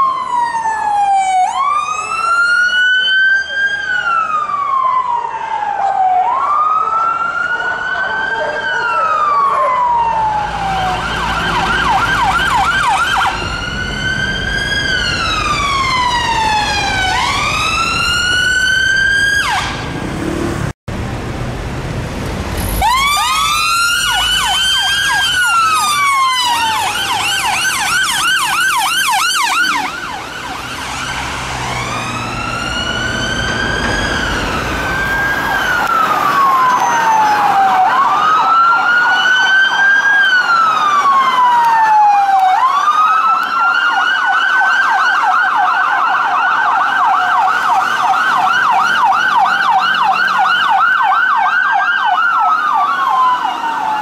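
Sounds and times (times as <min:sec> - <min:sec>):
siren wailing: 0:00.0 - 0:20.0, 0:22.8 - 0:54.0
siren yelping: 0:00.0 - 0:20.0, 0:22.8 - 0:54.0.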